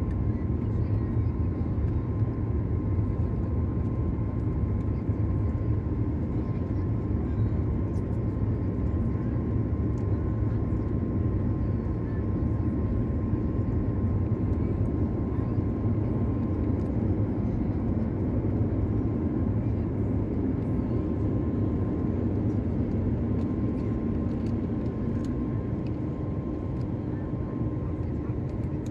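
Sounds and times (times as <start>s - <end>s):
jet engine low roar: 0.0s - 28.9s.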